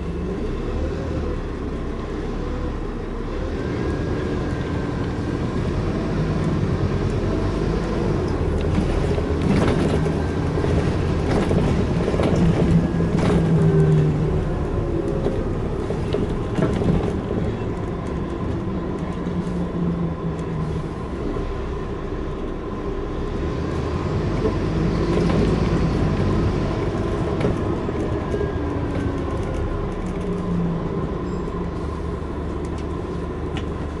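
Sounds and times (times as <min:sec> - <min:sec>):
bus diesel engine droning: 0:00.0 - 0:34.0
bus body rattling: 0:04.2 - 0:22.9, 0:24.0 - 0:34.0.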